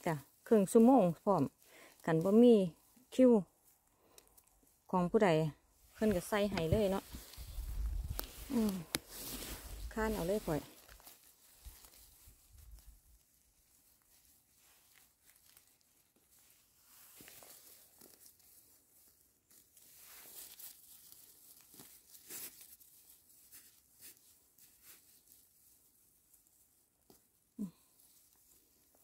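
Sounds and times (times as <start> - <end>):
faint rustling and crackling: 0.0 - 29.0.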